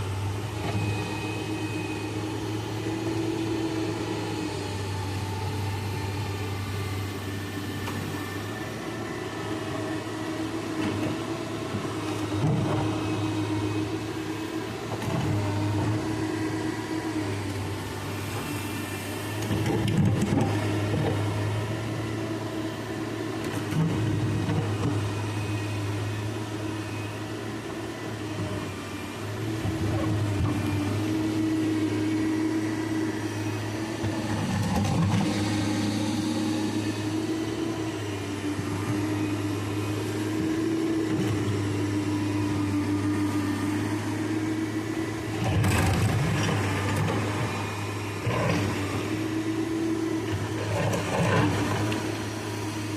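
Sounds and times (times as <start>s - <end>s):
excavator engine humming: 0.0s - 52.9s.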